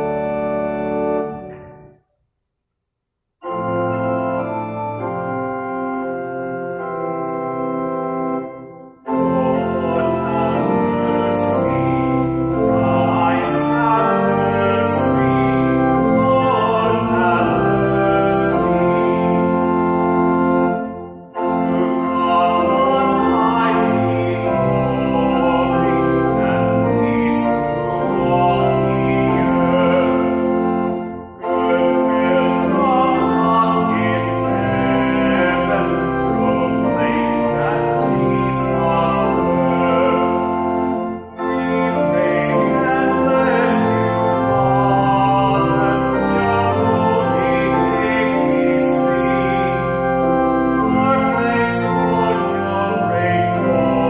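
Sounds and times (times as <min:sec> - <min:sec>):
church organ chords: 0:00.0 - 0:02.2, 0:03.4 - 0:54.0
man singing: 0:09.1 - 0:20.1, 0:21.4 - 0:54.0.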